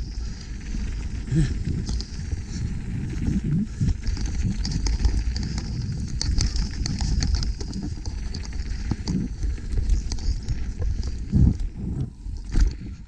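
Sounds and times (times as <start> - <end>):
bike rattling over rough ground: 0.0 - 13.0
wind rumbling on microphone: 0.0 - 13.0.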